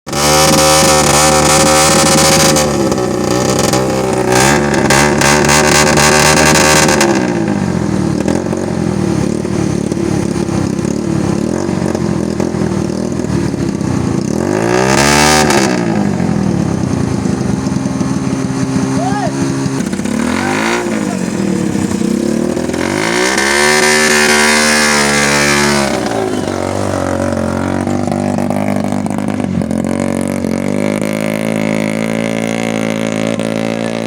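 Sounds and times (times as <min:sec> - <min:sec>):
rickshaw engine revving: 0:00.1 - 0:34.0.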